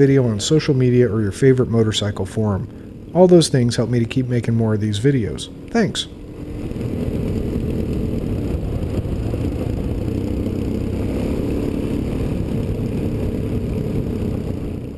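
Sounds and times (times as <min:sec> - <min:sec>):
motorcycle engine running: 0:00.0 - 0:14.9
wind and road noise: 0:00.0 - 0:14.9.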